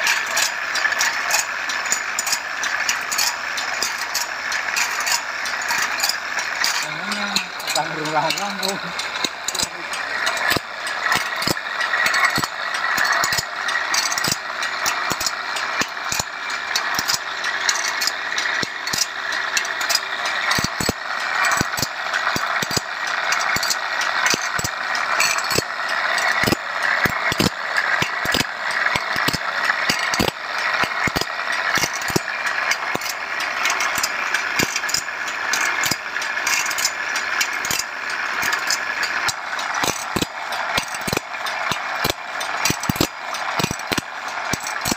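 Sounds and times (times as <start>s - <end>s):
abrasive wheel grinding: 0.0s - 44.9s
mechanism clicking and knocking: 0.0s - 44.9s.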